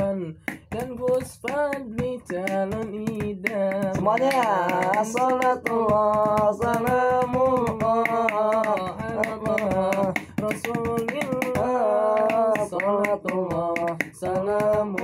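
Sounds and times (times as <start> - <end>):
hand slaps drummed on helmet: 0.0 - 15.0
man singing: 0.0 - 15.0.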